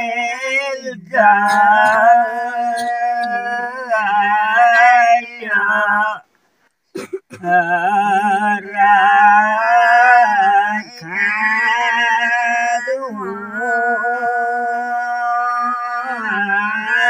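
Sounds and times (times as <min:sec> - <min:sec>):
man singing unaccompanied: 0:00.0 - 0:06.3, 0:07.3 - 0:17.0.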